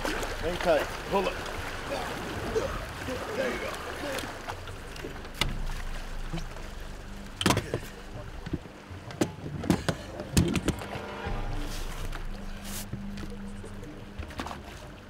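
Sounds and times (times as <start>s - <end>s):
river water rushing: 0.0s - 14.2s.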